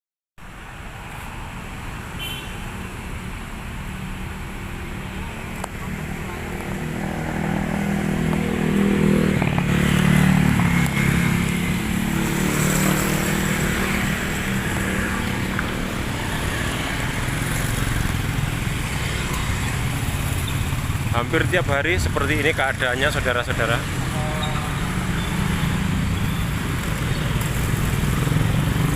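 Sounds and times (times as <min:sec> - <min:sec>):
congested road traffic: 0:00.4 - 0:28.9
engine passing close: 0:05.7 - 0:28.9.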